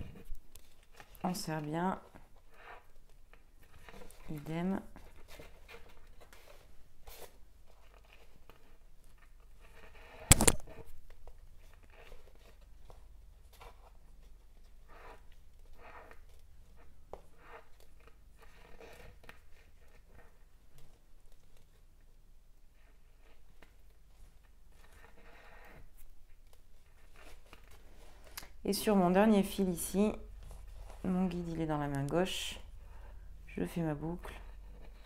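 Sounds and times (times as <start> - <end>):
threads scratching and rustling: 0.0 - 22.0, 22.7 - 35.0.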